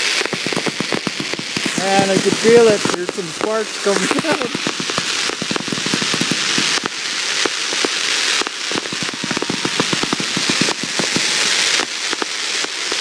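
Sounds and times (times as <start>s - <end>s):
fireworks crackling: 0.0s - 13.0s
fizzing hiss: 0.0s - 13.0s.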